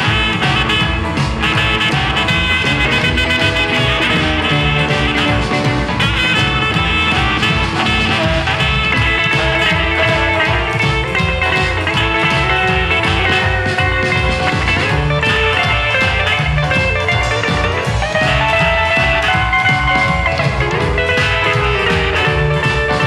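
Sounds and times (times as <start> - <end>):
double bass: 0.0 - 23.0
drums: 0.0 - 23.0
guitar lead: 0.0 - 23.0.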